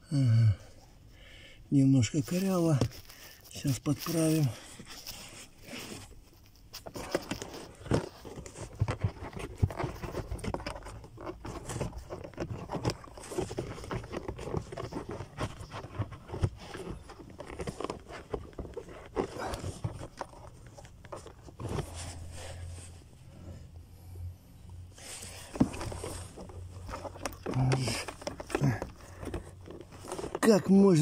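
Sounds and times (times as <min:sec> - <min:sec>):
filter rustling: 0:00.9 - 0:23.7, 0:24.9 - 0:31.0
air filter scraping in housing: 0:02.0 - 0:23.7, 0:24.9 - 0:31.0.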